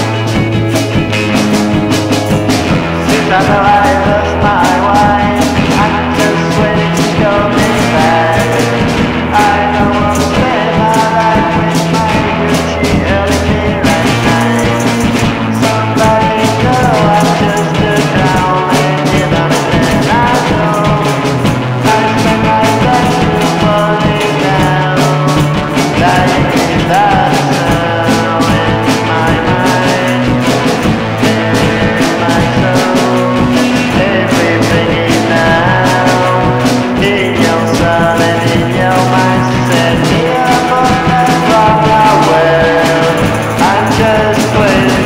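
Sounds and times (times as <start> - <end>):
rock band playing: 0.0 - 45.0.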